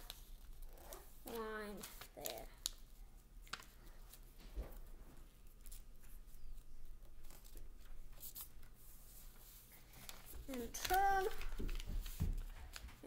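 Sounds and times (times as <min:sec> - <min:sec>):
paper being folded: 0:00.0 - 0:13.0.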